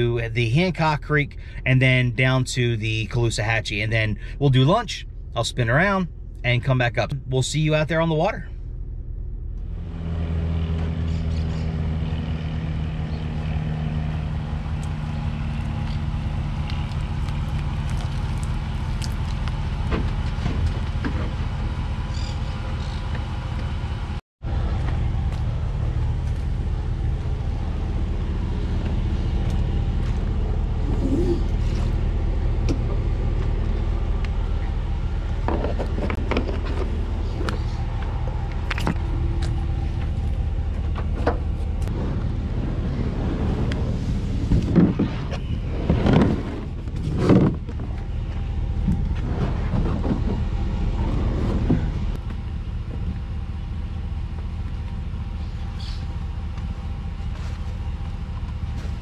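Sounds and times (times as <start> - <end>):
faint hum: 0.0 - 59.0
motor vehicle rumbling: 0.0 - 59.0.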